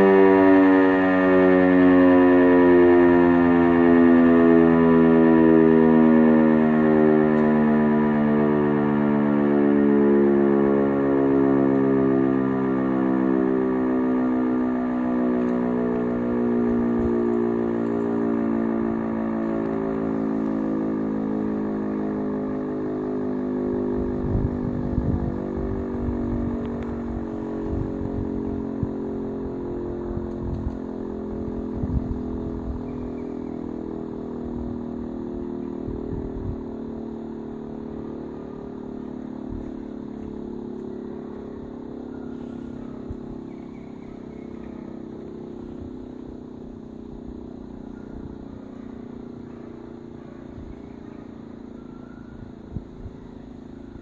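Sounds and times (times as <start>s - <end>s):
air-raid siren steady tone: 0.0s - 54.0s.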